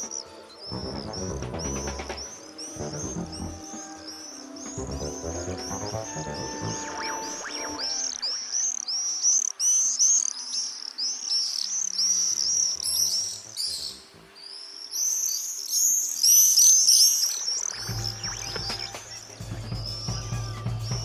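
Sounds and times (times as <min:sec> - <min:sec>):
swifts screaming: 0:00.0 - 0:21.0.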